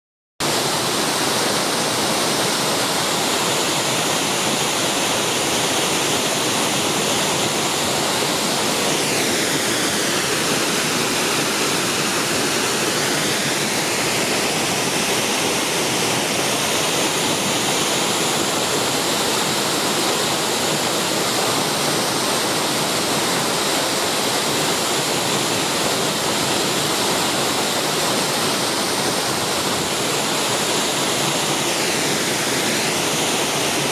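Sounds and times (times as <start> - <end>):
waterfall rushing: 0.4 - 33.9.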